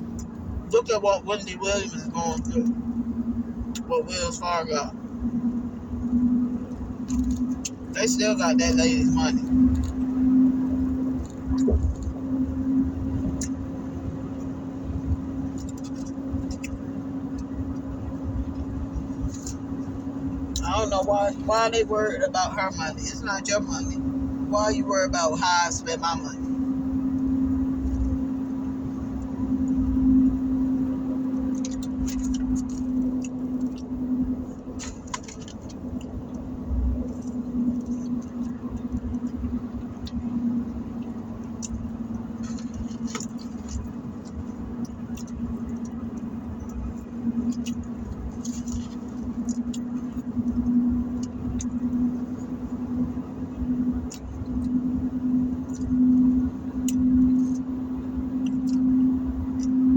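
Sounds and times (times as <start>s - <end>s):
car cabin hum: 0.0s - 59.9s.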